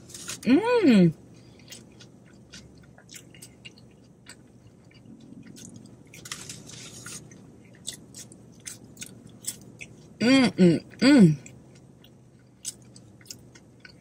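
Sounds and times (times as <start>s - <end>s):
person chewing food: 1.2s - 10.2s, 11.4s - 14.0s.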